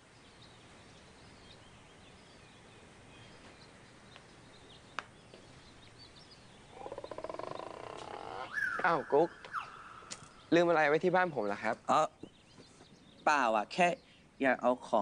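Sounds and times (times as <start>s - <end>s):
faint outdoor ambience: 0.0s - 15.0s
bird chirps: 0.1s - 14.8s.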